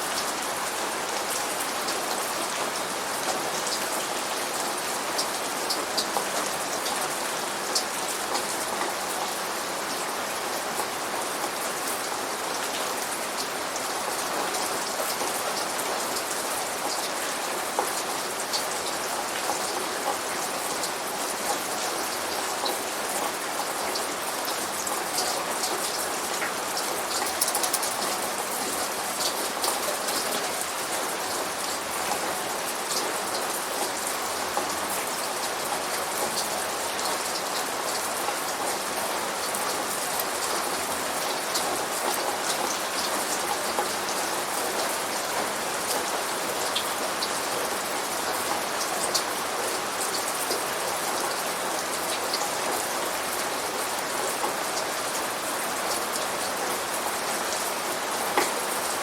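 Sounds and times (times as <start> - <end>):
rain pattering on hard surfaces: 0.0 - 59.0.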